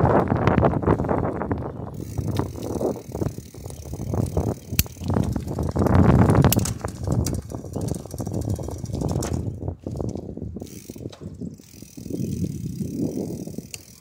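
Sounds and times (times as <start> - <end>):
bicycle tyres rushing on asphalt: 0.0 - 14.0
bike clicks: 0.0 - 14.0.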